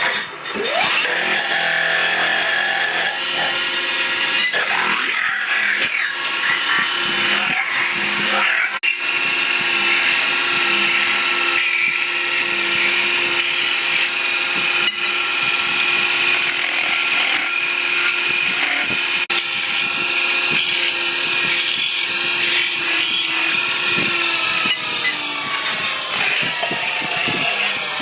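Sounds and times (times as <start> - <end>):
power tool motor whining: 0.0 - 28.0.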